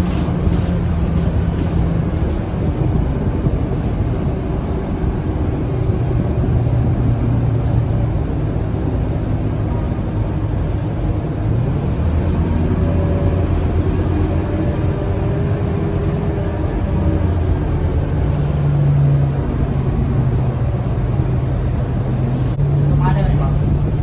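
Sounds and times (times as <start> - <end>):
bus diesel engine running: 0.0 - 24.0
road noise: 0.0 - 24.0.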